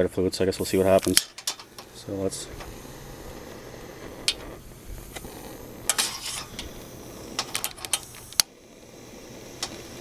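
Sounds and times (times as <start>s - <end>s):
grill lighter clicking: 0.6s - 10.0s.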